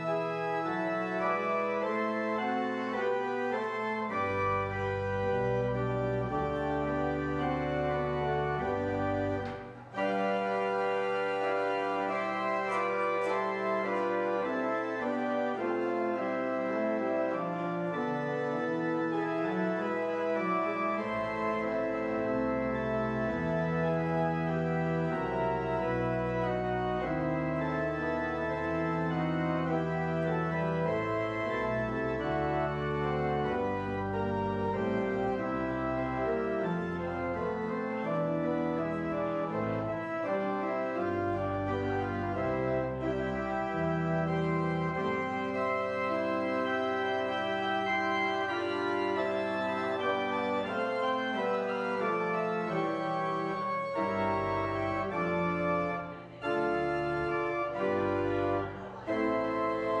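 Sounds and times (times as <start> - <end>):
church organ chords: 0.0 - 60.0.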